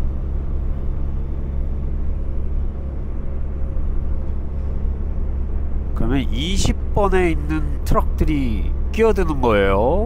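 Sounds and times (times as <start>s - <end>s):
truck diesel engine drone: 0.0s - 10.0s.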